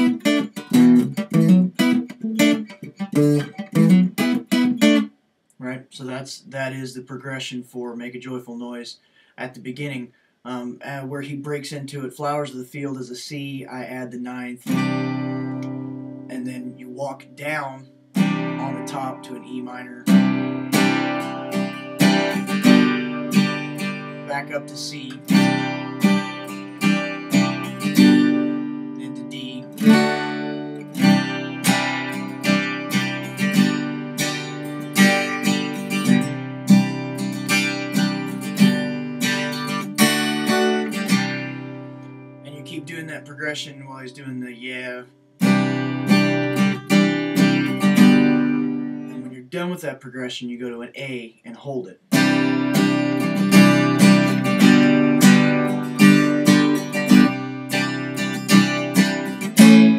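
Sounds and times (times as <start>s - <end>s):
guitar strummed in steady rhythm: 0.0s - 5.2s, 11.2s - 49.8s, 52.0s - 59.9s.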